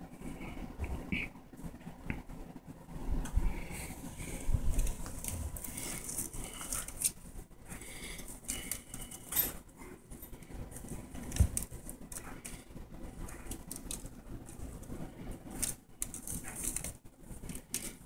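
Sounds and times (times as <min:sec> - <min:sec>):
rustling: 0:00.1 - 0:18.0
claws scratching cloth and wicker: 0:03.5 - 0:18.0.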